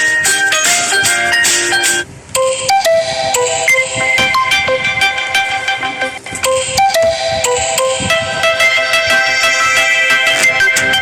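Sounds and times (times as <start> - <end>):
phone ringtone melodies: 0.0 - 11.0.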